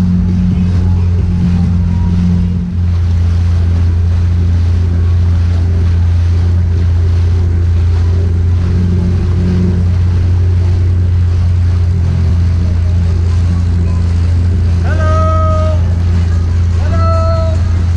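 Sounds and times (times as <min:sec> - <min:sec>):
watercraft engine drone: 0:00.0 - 0:17.9.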